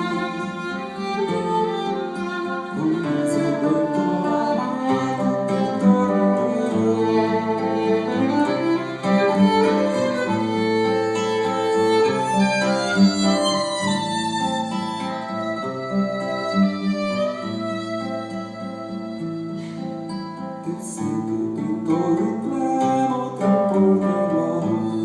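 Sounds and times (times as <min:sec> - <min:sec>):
held melody notes: 0:00.0 - 0:23.2.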